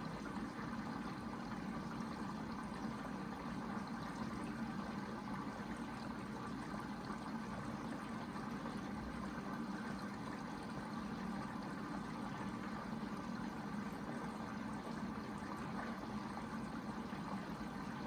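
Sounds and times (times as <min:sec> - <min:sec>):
washing machine filling with water: 0:00.0 - 0:18.0.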